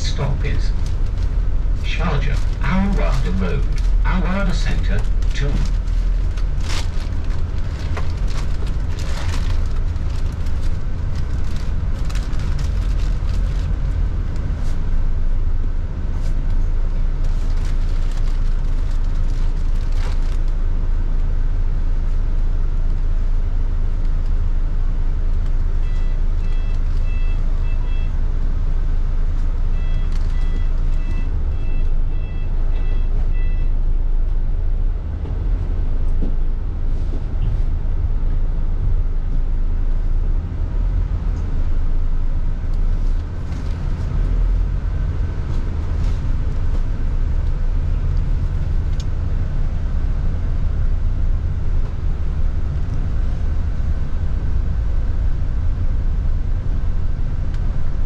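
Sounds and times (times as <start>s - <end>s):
bus engine and road drone: 0.0s - 58.0s.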